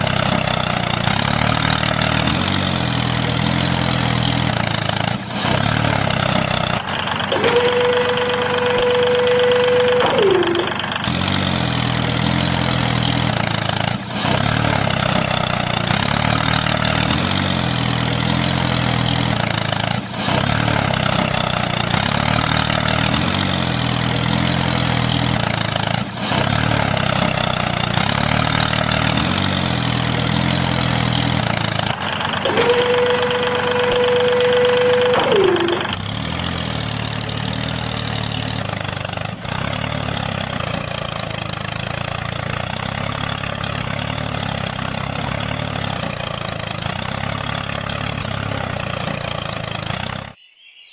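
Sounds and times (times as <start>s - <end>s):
held sliding tone: 0.0s - 13.8s, 14.5s - 42.6s
tractor engine running: 0.0s - 50.4s.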